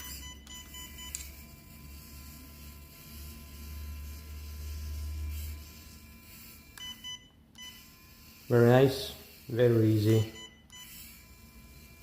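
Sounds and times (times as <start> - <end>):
small electric winch motor buzzing: 0.0 - 12.0.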